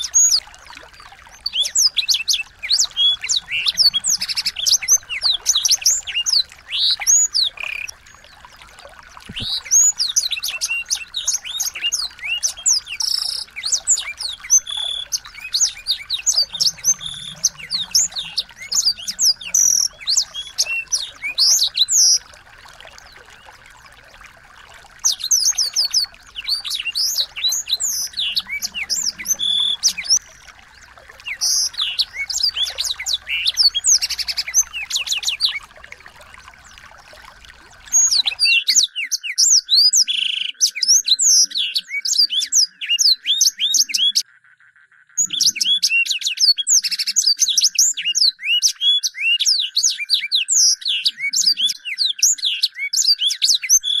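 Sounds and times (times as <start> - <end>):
songbirds twittering: 0.0 - 54.0.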